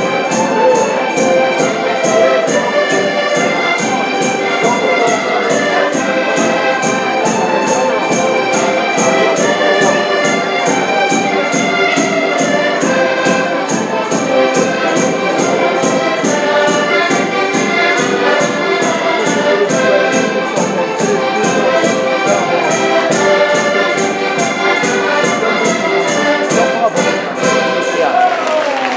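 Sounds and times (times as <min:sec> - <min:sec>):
accordions playing folk tune: 0:00.0 - 0:28.9.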